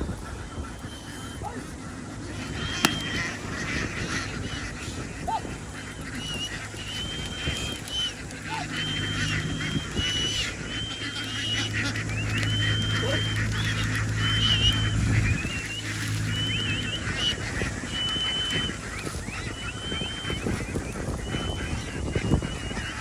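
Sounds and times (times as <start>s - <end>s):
ducks quacking: 0.0s - 23.0s
low steady hum: 0.0s - 23.0s.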